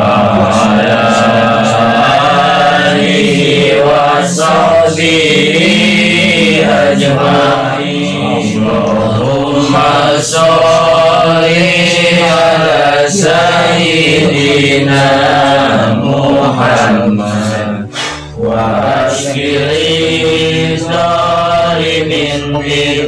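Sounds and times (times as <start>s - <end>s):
man chanting: 0.0s - 23.0s.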